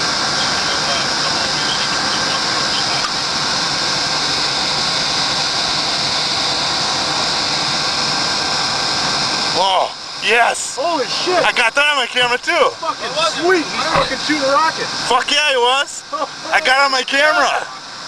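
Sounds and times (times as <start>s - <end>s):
mechanical drone with hiss: 0.0s - 18.0s.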